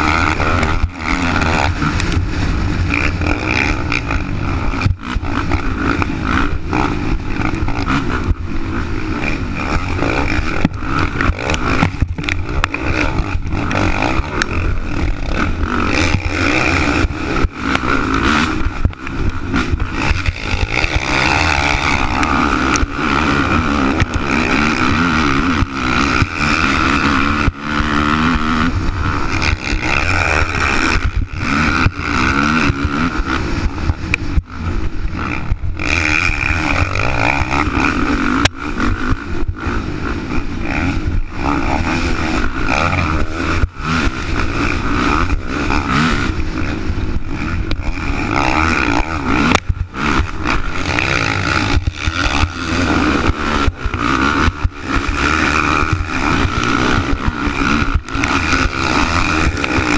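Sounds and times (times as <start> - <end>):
atv engine revving hard: 0.0 - 59.9.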